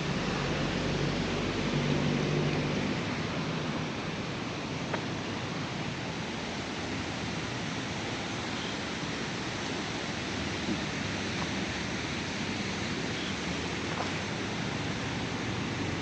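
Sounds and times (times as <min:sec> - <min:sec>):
street ambience hiss: 0:00.0 - 0:16.0.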